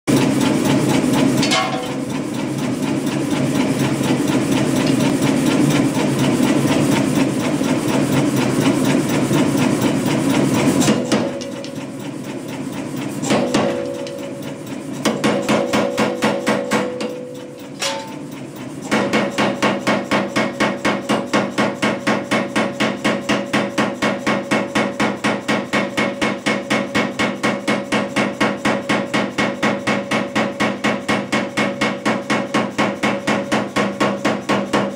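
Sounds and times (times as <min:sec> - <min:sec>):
power hammer striking hot steel: 0:00.1 - 0:34.9.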